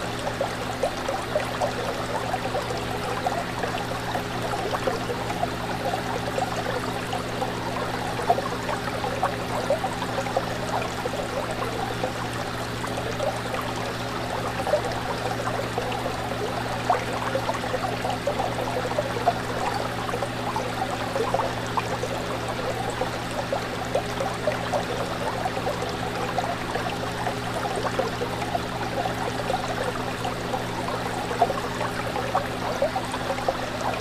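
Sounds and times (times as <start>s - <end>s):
fish tank water bubbling: 0.0s - 34.0s.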